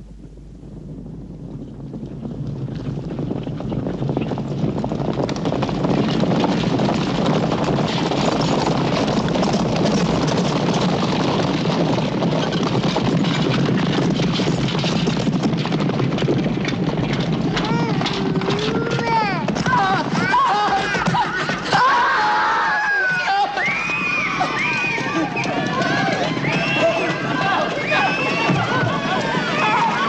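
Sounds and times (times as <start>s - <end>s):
horses galloping: 0.0s - 30.0s.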